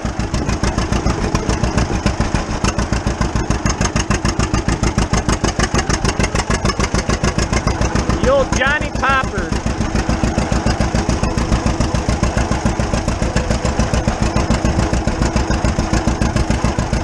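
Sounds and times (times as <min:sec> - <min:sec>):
tractor engine exhaust popping: 0:00.0 - 0:17.0.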